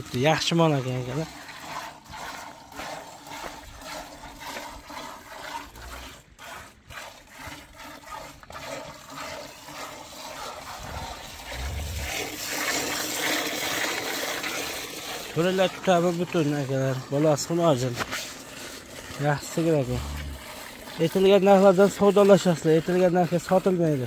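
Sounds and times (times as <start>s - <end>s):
milk squirting into bucket: 0.0s - 24.0s.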